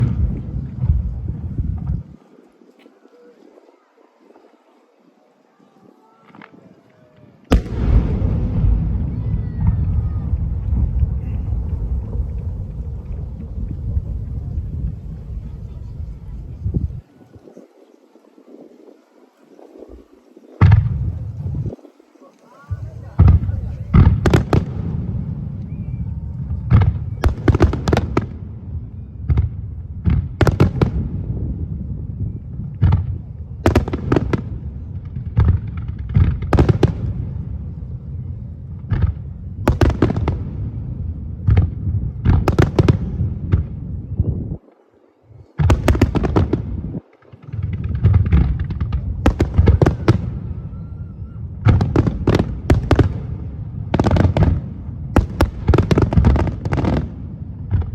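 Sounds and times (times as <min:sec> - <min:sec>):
low rumble of booms: 0:00.0 - 0:02.2, 0:07.5 - 0:17.0, 0:20.6 - 0:21.8, 0:22.7 - 0:44.7, 0:45.5 - 0:57.9.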